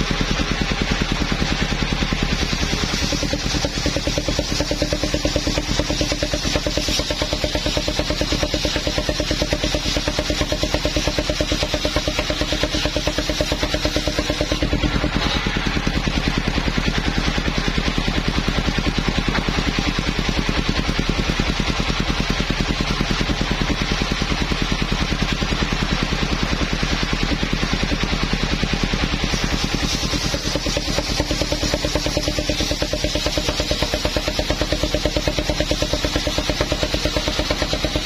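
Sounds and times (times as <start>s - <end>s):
sawmill engine running: 0.0s - 38.0s.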